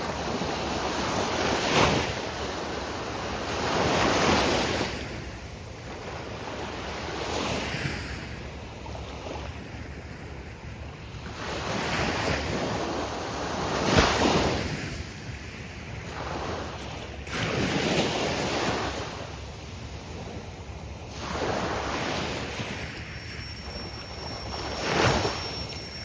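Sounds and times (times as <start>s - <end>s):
surf breaking on a sandy beach: 0.0s - 26.0s.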